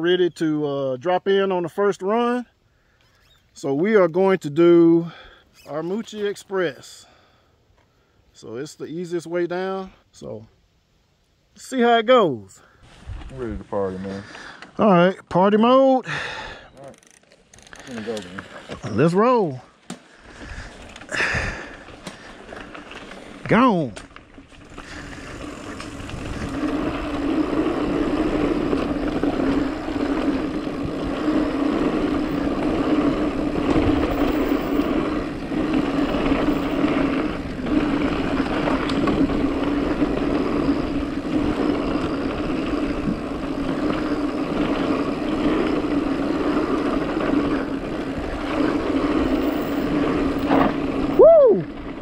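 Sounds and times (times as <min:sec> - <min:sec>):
bike tyre and drivetrain noise: 0:00.0 - 0:08.5, 0:12.6 - 0:52.0.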